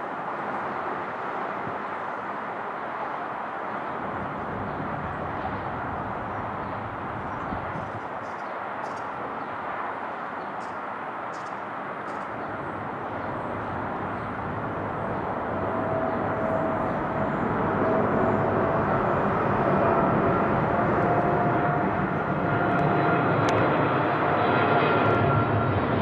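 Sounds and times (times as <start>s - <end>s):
jet airliner engines rushing: 0.0s - 26.0s.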